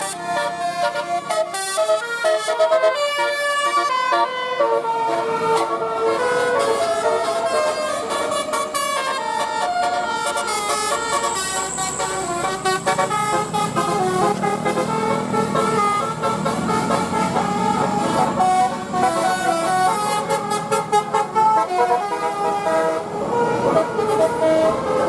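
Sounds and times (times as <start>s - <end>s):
air horns playing melody: 0.0s - 25.0s.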